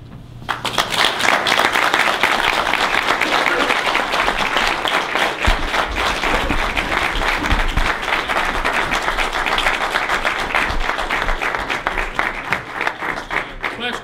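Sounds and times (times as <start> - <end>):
audience applauding: 0.5 - 14.0.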